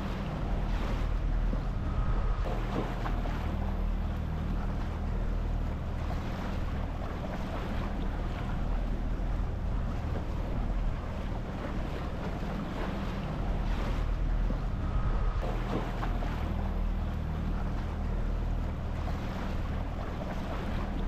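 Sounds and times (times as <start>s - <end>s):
boat motor running: 0.0s - 21.0s
water washing along hull: 0.0s - 21.0s
wind buffeting microphone: 0.0s - 21.0s.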